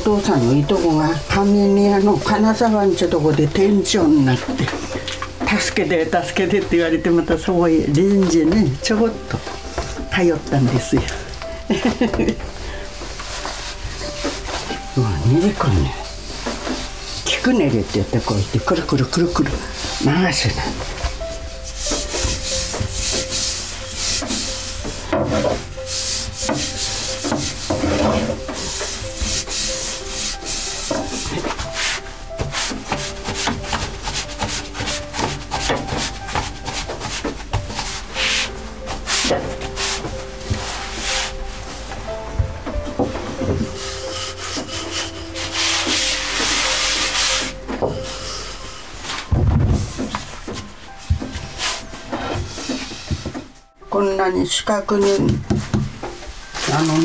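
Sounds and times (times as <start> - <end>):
rolling pin rolling dough: 0.0 - 53.6.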